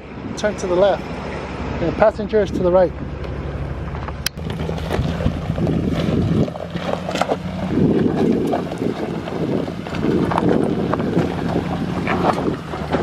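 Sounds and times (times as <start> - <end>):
pickup engine running under load: 0.0 - 13.0
wind noise on microphone: 1.1 - 13.0.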